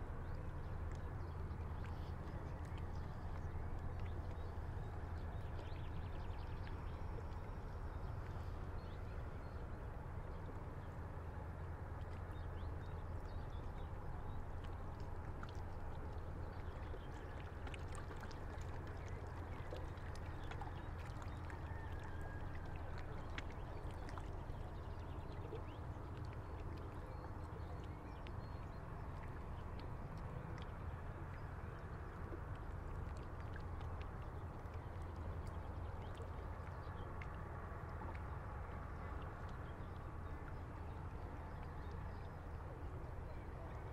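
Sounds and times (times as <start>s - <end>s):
small water splashes: 0.0s - 43.9s.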